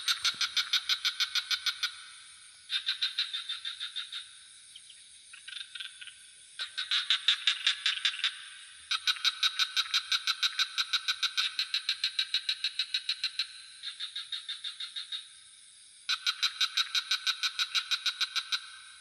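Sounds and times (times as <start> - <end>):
frogs trilling: 0.0 - 15.5, 16.1 - 19.0
crickets chirring: 0.0 - 19.0.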